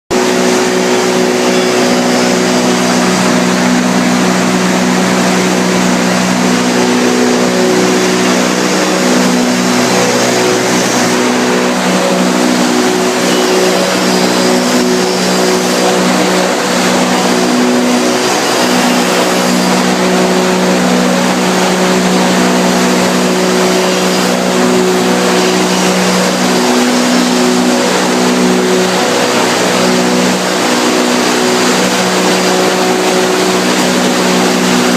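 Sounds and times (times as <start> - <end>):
droning hum tones: 0.1 - 34.9.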